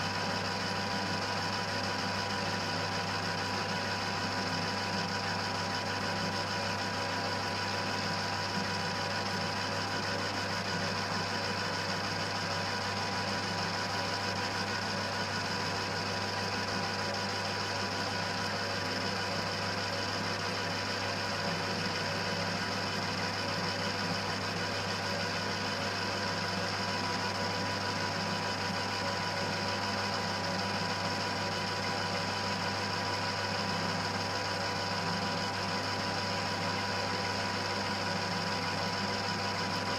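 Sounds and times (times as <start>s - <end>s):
lathe humming and whirring: 0.2s - 39.9s.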